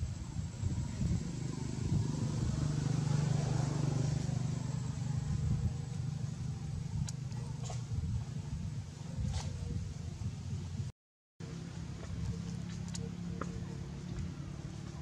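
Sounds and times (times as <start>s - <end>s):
vehicle engine rumble passing: 0.0s - 15.0s.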